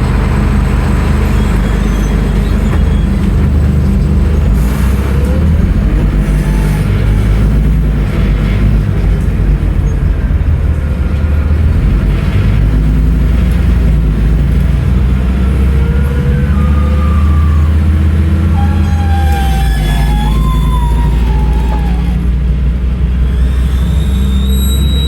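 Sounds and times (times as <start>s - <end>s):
bus diesel engine rumble: 0.0s - 25.0s
gearbox whine: 0.0s - 25.0s.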